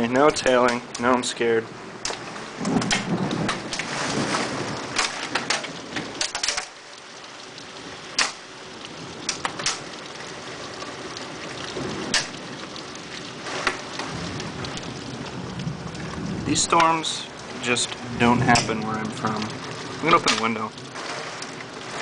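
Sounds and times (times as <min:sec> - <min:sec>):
hailstones clicking and tapping: 0:00.0 - 0:01.4, 0:02.0 - 0:22.0
heavy rain hiss: 0:00.0 - 0:22.0.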